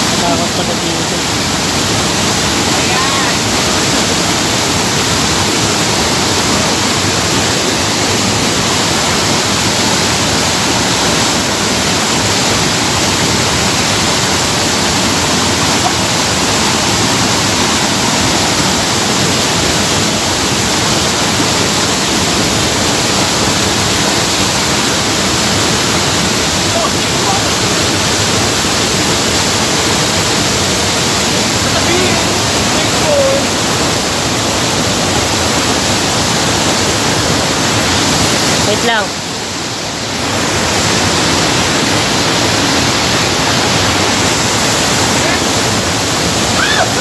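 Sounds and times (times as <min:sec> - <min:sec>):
waterfall pouring over rocks: 0:00.0 - 0:47.0.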